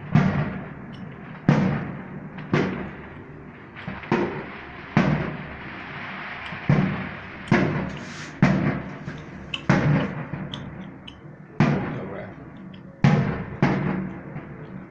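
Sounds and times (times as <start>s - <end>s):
firework shells bursting with echo: 0.0s - 14.9s.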